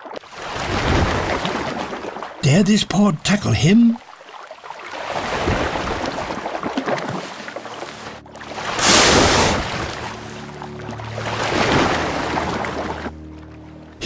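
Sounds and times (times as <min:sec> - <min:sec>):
sea water sloshing and splashing: 0:00.0 - 0:02.4, 0:04.0 - 0:14.0.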